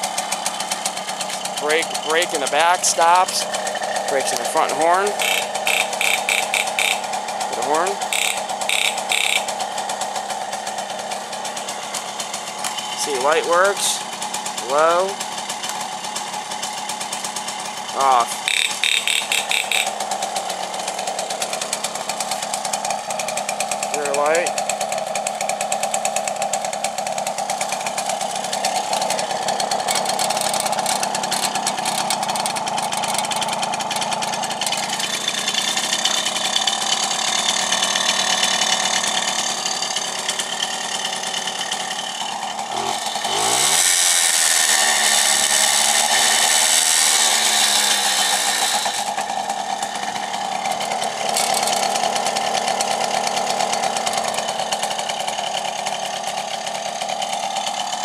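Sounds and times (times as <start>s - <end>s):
moped engine running: 0.0s - 58.0s.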